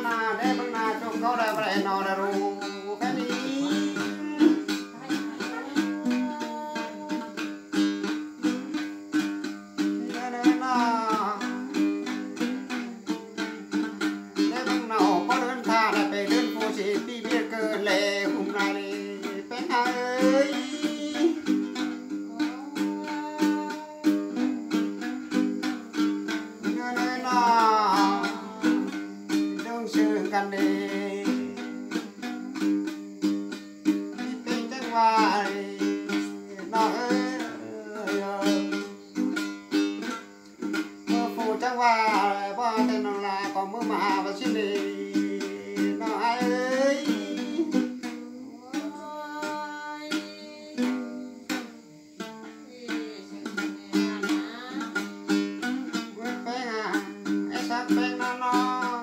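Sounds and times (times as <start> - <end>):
person singing folk melody: 0.0 - 59.0
plucked lute notes: 0.0 - 59.0.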